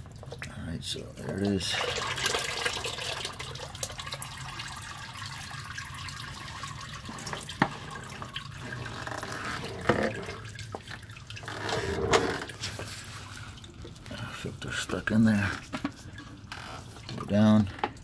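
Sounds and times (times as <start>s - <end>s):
oil trickling into drain pan: 0.0s - 18.0s.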